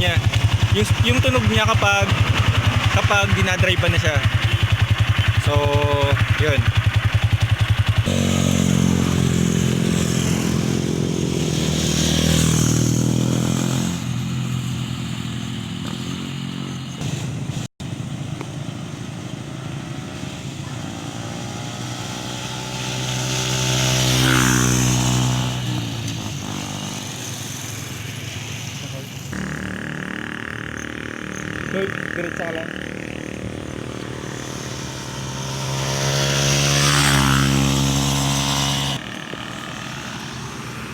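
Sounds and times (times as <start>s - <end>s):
motorcycle passing by: 0.0s - 40.9s.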